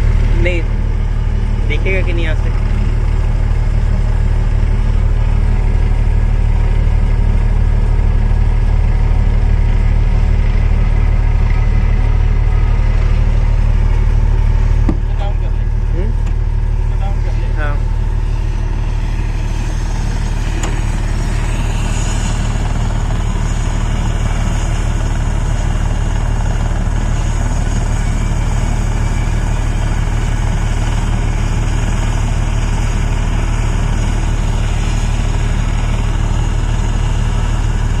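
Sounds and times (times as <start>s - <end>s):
helicopter running: 0.0s - 38.0s.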